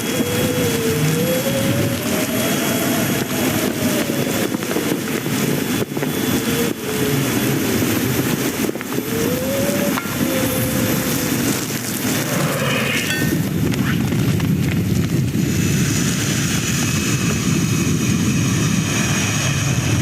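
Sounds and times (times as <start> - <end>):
plane engine taking off: 0.0 - 20.0.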